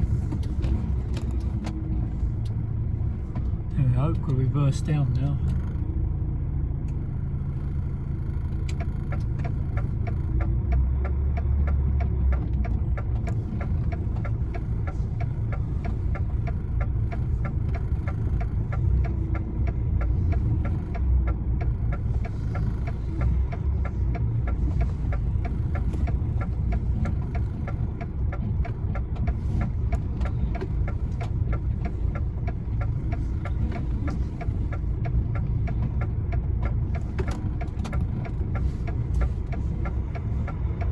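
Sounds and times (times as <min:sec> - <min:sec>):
lorry diesel engine rumbling: 0:00.0 - 0:40.9
fast even ticking: 0:07.8 - 0:40.9.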